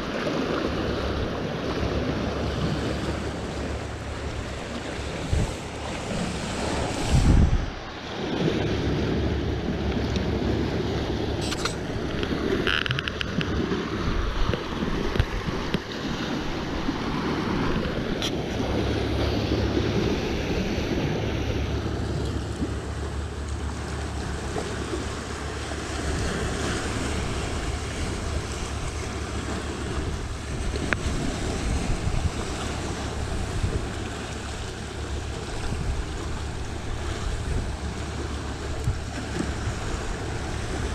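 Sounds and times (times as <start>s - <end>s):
sea waves washing in: 0.0s - 40.9s
wind buffeting microphone: 0.0s - 40.9s.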